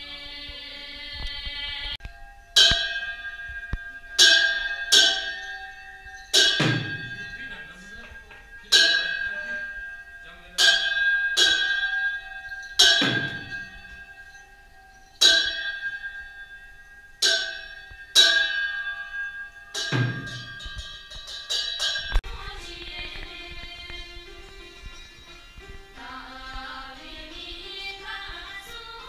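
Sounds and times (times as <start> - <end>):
music: 0.0 - 29.0
metallic percussion strikes: 0.5 - 29.0.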